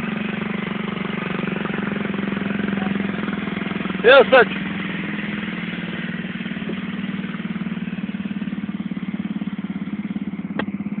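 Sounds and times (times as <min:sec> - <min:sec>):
scooter engine idling: 0:00.0 - 0:11.0.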